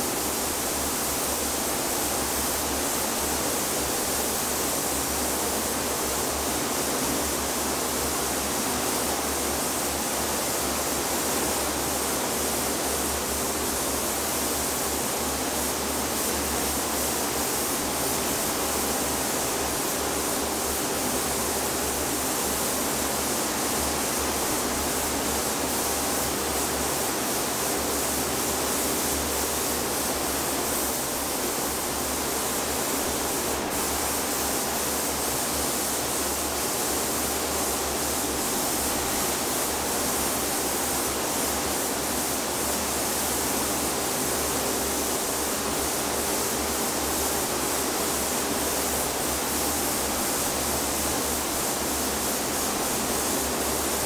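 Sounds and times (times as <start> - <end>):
spray gun hissing: 0.1 - 54.0.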